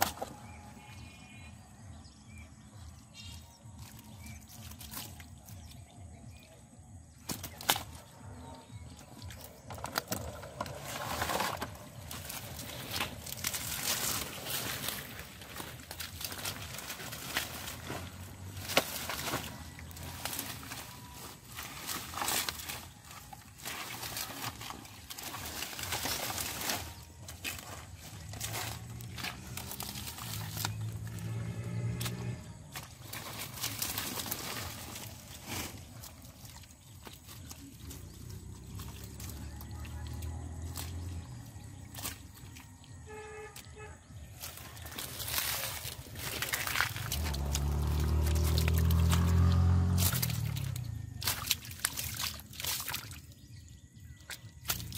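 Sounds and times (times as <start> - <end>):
plant stalks and leaves rustling: 0.0 - 54.9
wet mud squelching: 0.0 - 54.9.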